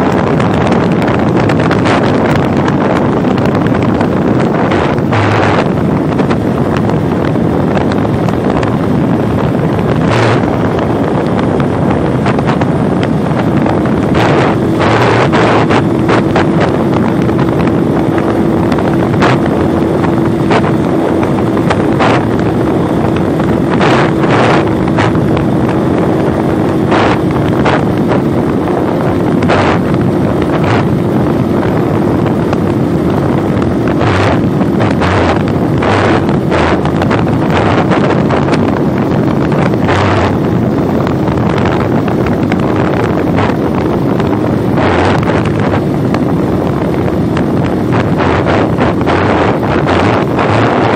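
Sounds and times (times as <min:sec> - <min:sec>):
motorcycle engine running: 0:00.0 - 0:50.9
steady whine: 0:00.0 - 0:50.9
wind buffeting microphone: 0:00.0 - 0:50.9.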